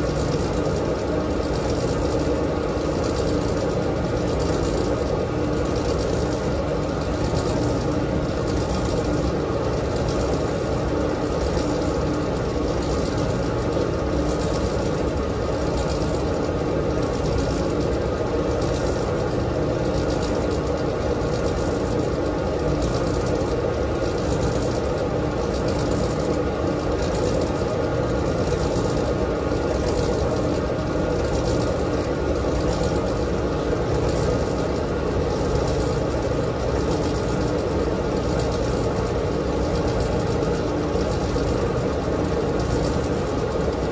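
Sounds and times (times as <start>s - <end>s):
washing machine drum spinning: 0.0s - 43.9s.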